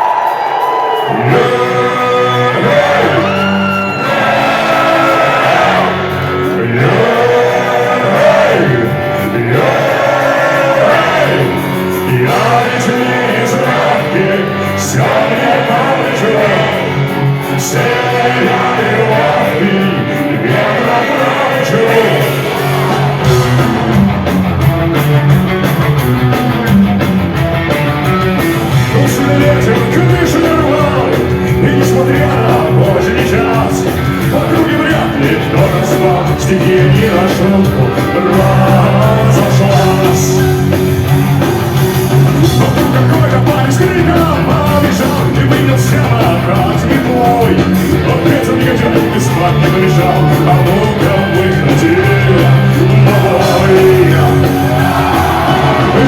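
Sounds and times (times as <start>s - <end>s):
voices singing and shouting: 0.0s - 25.2s, 28.3s - 56.0s
loud rock music with guitar: 0.0s - 56.0s.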